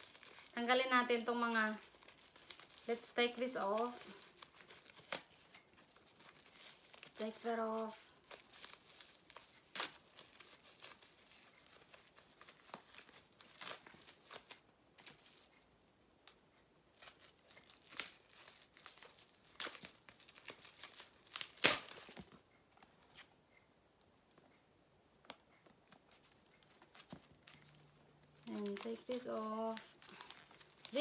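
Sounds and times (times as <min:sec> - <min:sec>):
plastic wrapping crinkling and tearing: 0:00.0 - 0:15.6, 0:16.2 - 0:22.4, 0:26.2 - 0:31.0.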